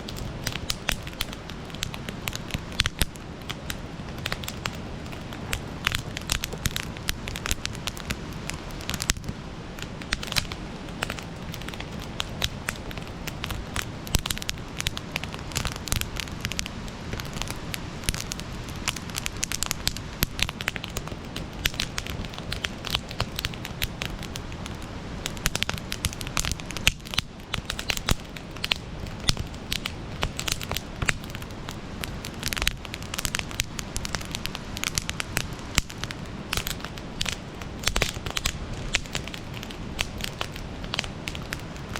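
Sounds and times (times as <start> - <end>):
campfire burning: 0.0 - 41.9
fire crackling and popping: 0.0 - 41.9.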